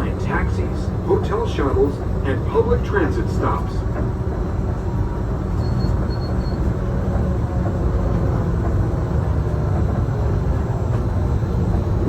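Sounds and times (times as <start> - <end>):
monorail rumbling: 0.0 - 12.0.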